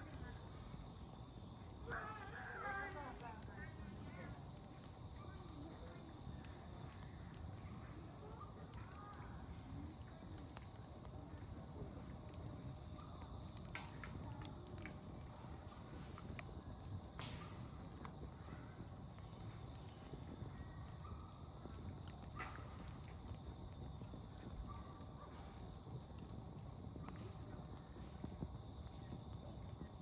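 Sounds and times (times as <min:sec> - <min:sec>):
campfire crackling: 0:00.0 - 0:30.0
distant children's voices: 0:01.6 - 0:30.0.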